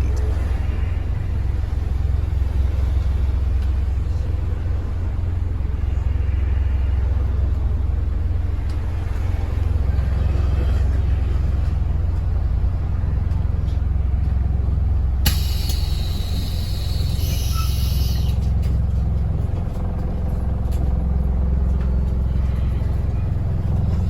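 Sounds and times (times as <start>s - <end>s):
bus diesel engine rumble: 0.0s - 24.0s.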